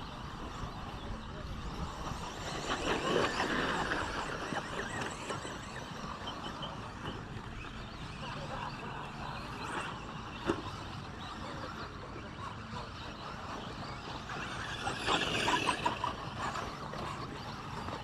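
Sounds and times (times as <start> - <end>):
small motors and tyres racing: 0.0 - 18.0.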